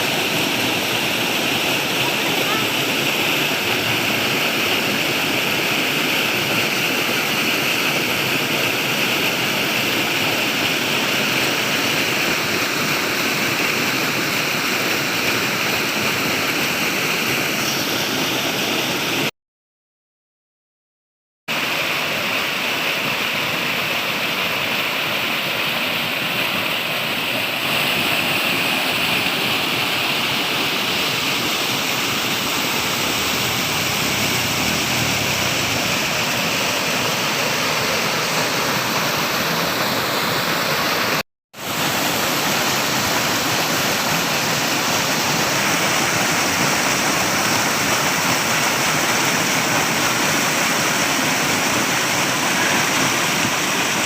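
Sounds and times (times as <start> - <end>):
flowing water rushing: 0.0 - 19.3, 21.5 - 54.0.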